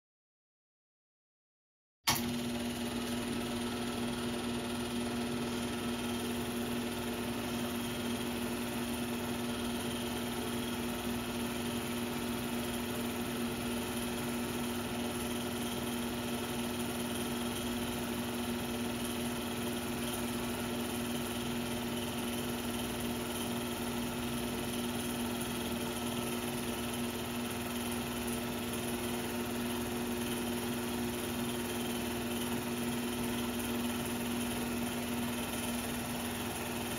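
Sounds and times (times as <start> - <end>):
film projector hum: 2.1 - 36.9.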